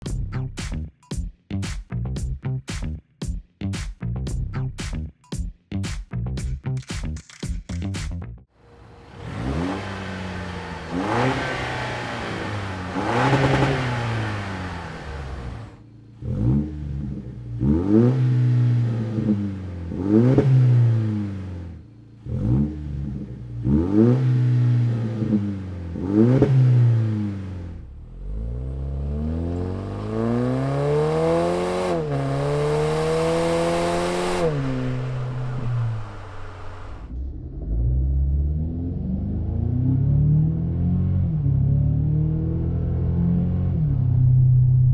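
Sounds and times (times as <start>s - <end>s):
engine revving with deep exhaust: 8.7s - 44.9s.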